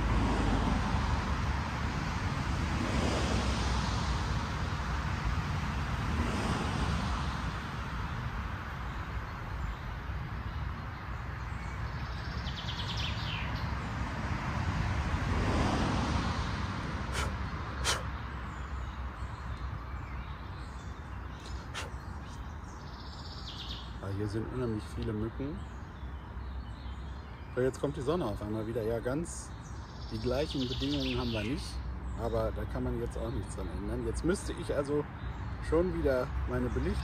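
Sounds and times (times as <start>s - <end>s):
distant road traffic: 0.0s - 37.0s
wind: 0.0s - 37.0s.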